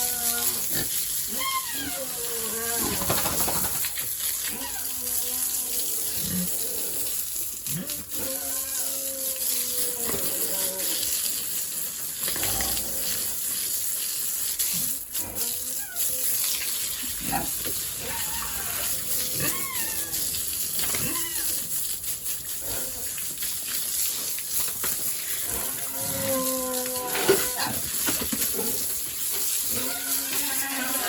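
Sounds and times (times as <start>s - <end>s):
pigs squealing and grunting: 0.0s - 3.7s, 4.4s - 11.4s, 12.3s - 13.4s, 14.6s - 21.8s, 22.6s - 23.2s, 25.4s - 31.0s
water running and splashing: 0.0s - 31.0s.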